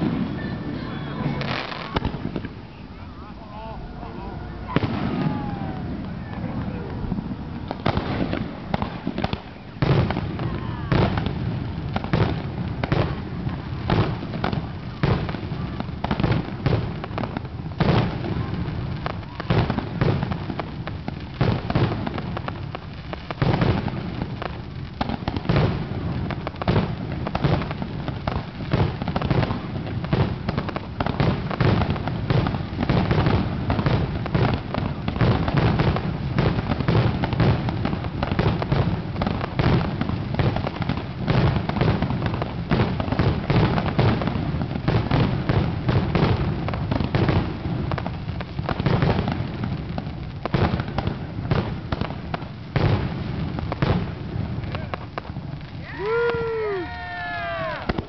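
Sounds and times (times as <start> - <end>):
fireworks launching and bursting: 0.0 - 58.0.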